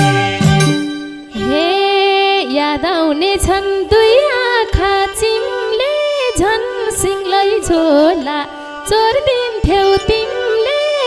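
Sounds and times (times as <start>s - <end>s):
woman singing into microphone: 1.3s - 11.0s.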